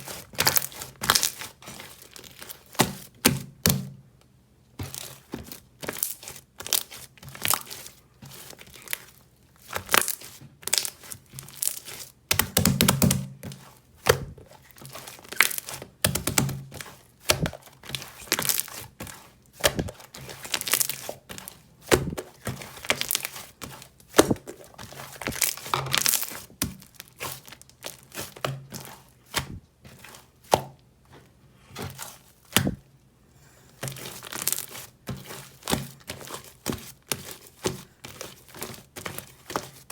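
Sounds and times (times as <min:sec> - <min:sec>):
jelly toy crackling and squelching: 0:00.0 - 0:03.8, 0:04.8 - 0:39.9.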